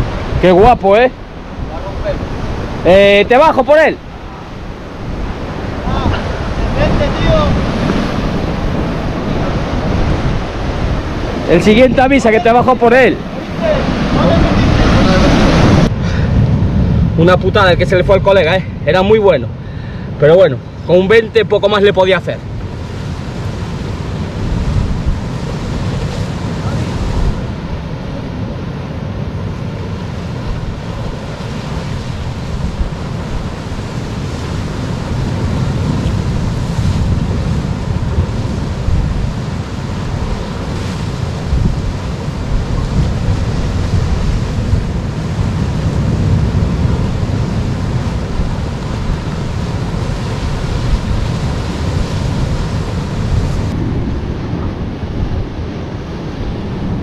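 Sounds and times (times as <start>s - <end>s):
wind buffeting microphone: 0.0s - 21.3s, 22.3s - 57.0s.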